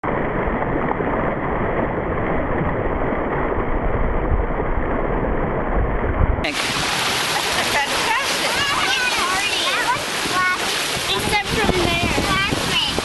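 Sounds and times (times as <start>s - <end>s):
rushing wind and water: 0.0s - 13.0s
wind buffeting microphone: 0.6s - 7.3s, 7.9s - 13.0s.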